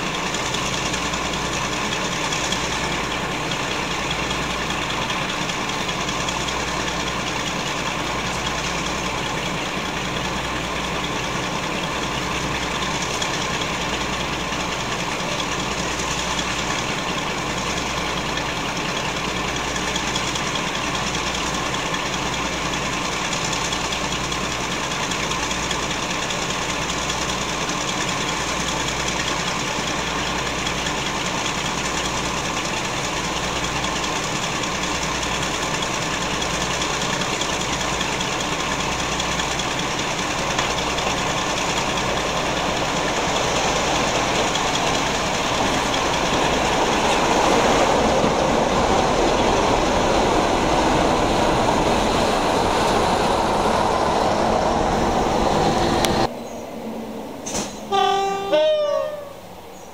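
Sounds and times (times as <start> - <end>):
diesel locomotive idling: 0.0 - 59.9
locomotive approaching: 0.0 - 59.9.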